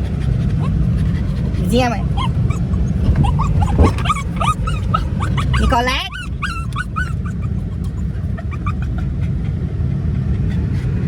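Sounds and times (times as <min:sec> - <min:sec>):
car driving rumble from inside: 0:00.0 - 0:10.5
dog whining in squeaky yips: 0:00.4 - 0:09.3.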